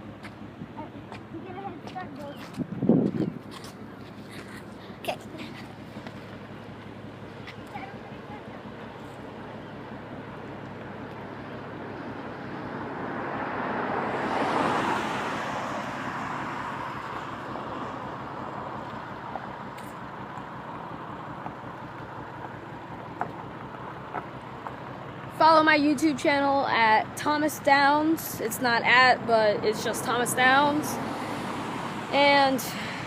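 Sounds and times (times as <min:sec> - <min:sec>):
vehicle passing by: 0:00.0 - 0:33.0.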